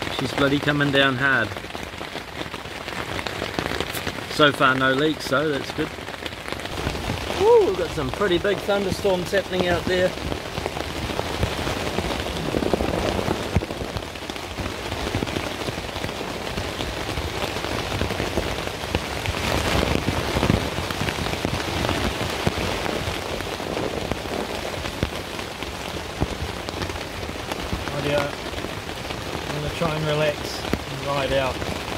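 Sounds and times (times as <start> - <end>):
heavy rain on a tent: 0.0 - 31.9.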